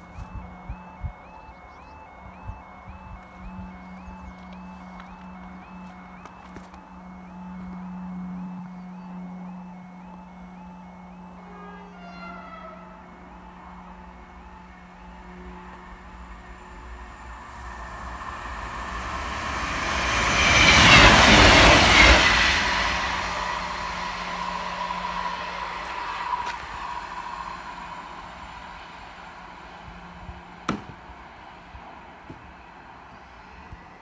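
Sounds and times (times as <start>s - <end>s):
diesel train passing: 0.0s - 34.0s.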